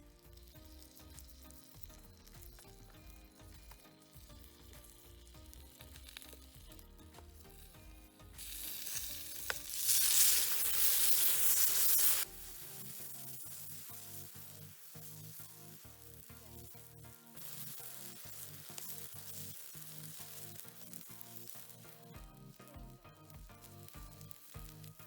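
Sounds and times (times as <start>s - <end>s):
food sizzling in frying: 0.0s - 25.0s
soft background music: 0.0s - 25.0s.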